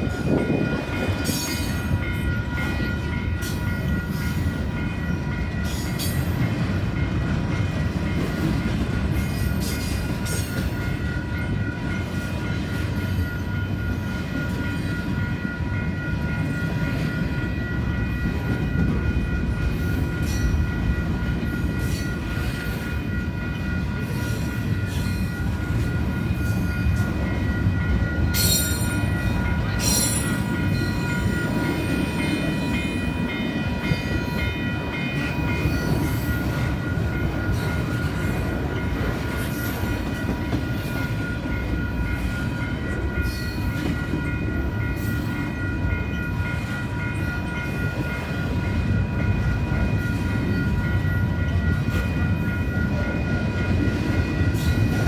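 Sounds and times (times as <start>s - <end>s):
high ringing tones: 0.0s - 55.0s
train wheels rumbling on rail: 0.0s - 55.0s.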